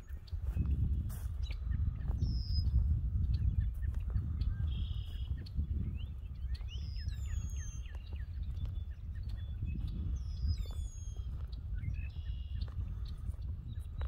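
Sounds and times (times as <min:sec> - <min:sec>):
songbirds calling: 0:00.0 - 0:14.0.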